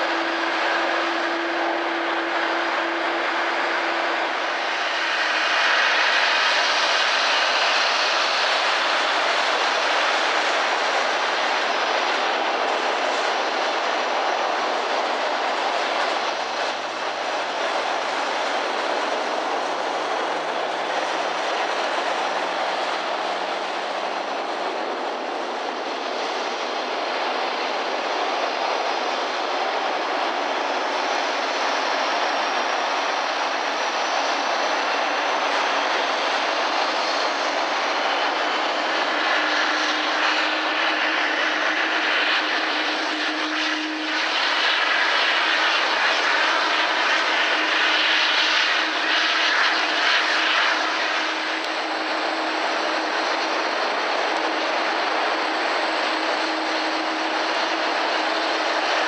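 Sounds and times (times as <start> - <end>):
high engine whine: 0.0 - 59.0
jet engines rushing: 0.0 - 59.0.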